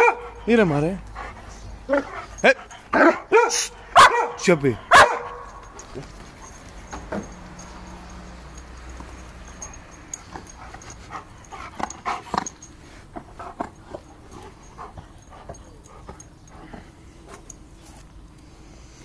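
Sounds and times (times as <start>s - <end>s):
dog panting: 0.0s - 3.9s, 4.6s - 18.1s.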